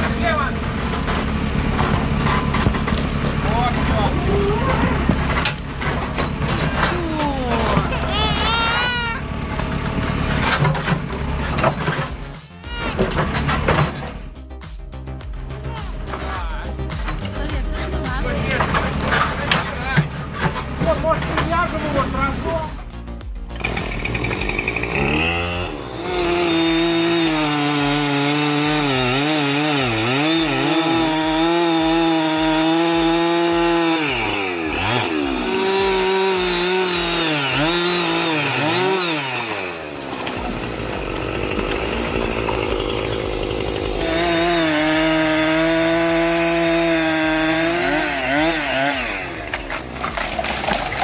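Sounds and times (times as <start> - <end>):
chainsaw cutting wood: 0.0 - 14.4, 15.5 - 51.0.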